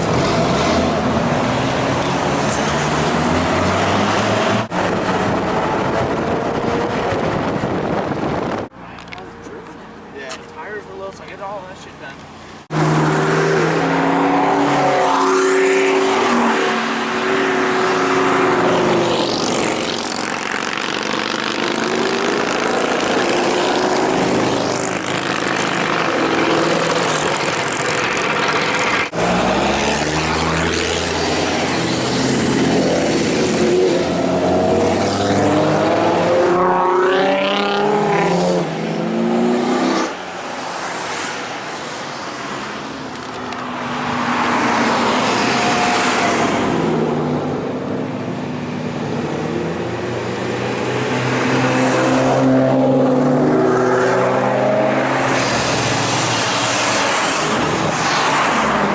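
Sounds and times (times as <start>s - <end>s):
car engines revving past: 0.0s - 9.6s, 12.6s - 58.9s.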